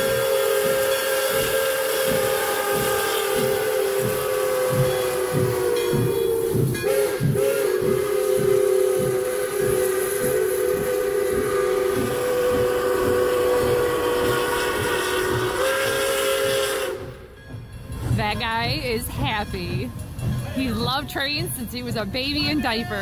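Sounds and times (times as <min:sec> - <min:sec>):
steam locomotive chime whistle: 0:00.0 - 0:19.9
steam exhaust chuffs: 0:00.0 - 0:22.6.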